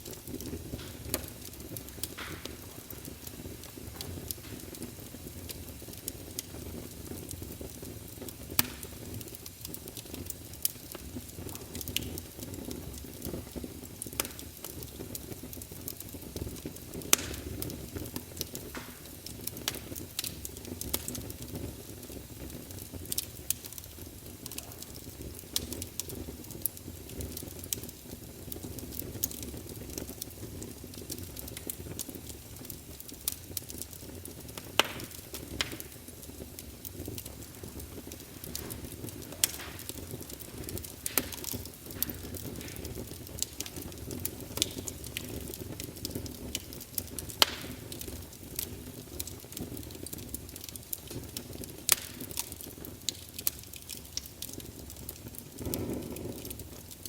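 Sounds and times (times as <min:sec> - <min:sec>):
burning logs crackling and popping: 0:00.0 - 0:57.0
flames rushing: 0:00.0 - 0:57.0.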